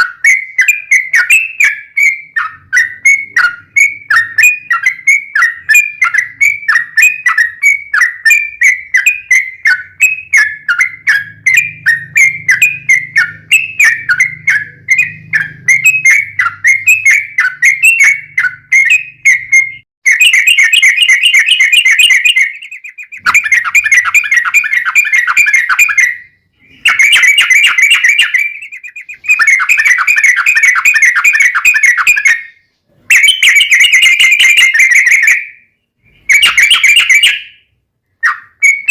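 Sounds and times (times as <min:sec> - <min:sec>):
bulbul chirping and trilling: 0:00.0 - 0:38.9.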